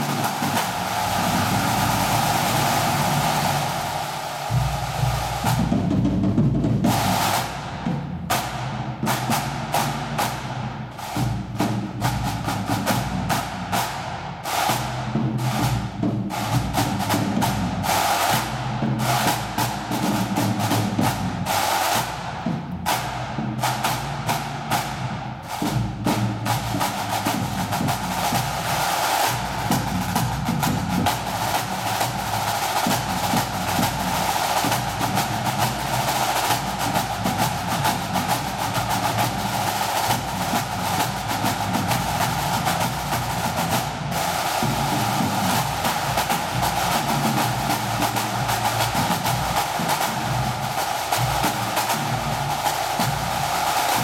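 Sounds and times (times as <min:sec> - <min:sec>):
snare drum strokes and rolls: 0:00.0 - 0:54.0
bass drum beats: 0:04.5 - 0:54.0.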